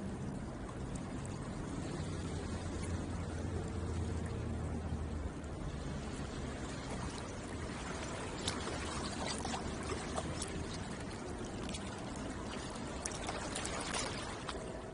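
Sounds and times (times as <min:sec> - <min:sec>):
water lapping at shoreline: 0:00.0 - 0:14.9.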